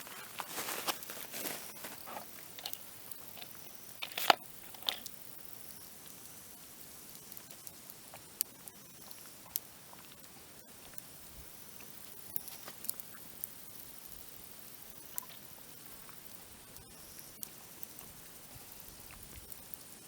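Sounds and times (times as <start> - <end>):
campfire crackling and popping: 0.0 - 20.0
faint steady hiss: 0.0 - 20.0.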